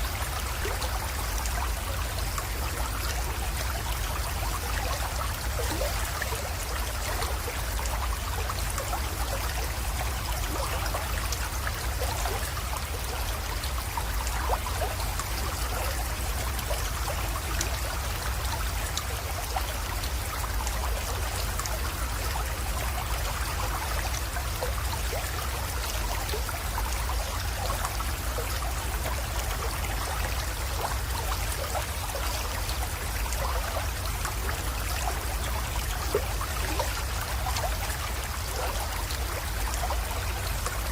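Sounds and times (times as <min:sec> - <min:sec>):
creek trickling over stones: 0:00.0 - 0:40.9
small water splashes: 0:00.0 - 0:40.9.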